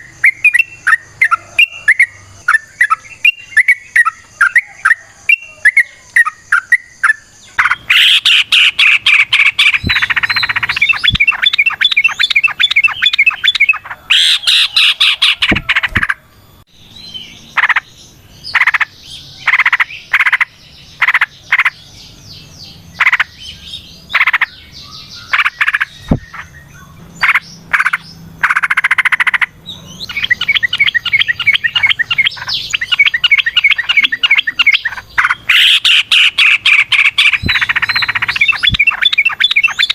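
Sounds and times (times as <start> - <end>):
bird singing rattling song: 0.0 - 39.9.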